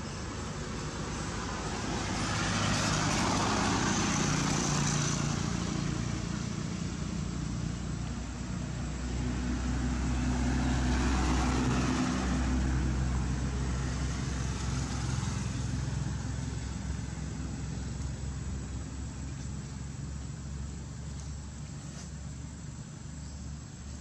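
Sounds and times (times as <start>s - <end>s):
engine hum with low drone: 0.0s - 24.0s.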